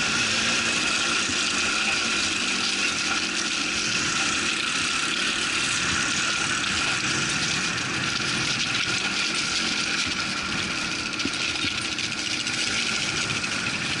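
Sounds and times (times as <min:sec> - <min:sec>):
quad bike engine running: 0:00.0 - 0:14.0
tyres over loose gravel: 0:00.0 - 0:14.0.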